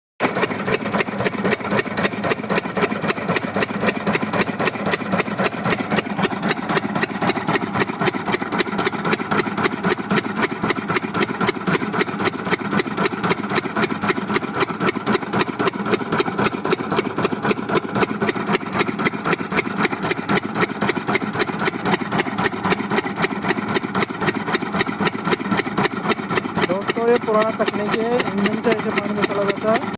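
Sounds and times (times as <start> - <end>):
water pump engine running: 0.2 - 29.9.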